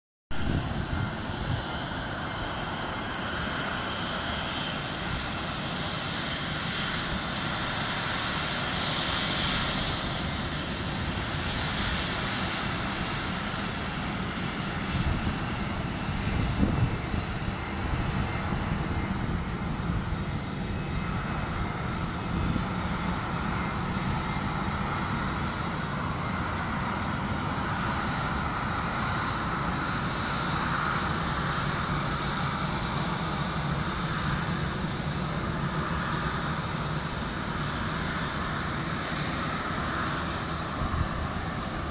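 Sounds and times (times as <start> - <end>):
jet engines rushing with high whine: 0.3 - 41.9.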